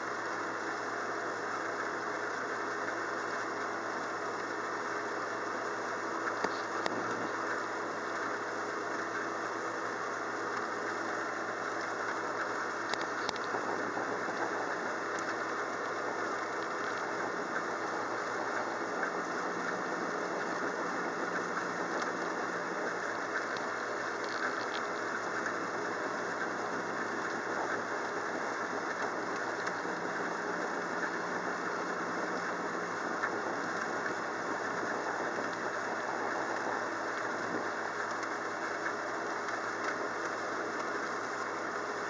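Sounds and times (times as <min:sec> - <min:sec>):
steady rain hiss: 0:00.0 - 0:42.0.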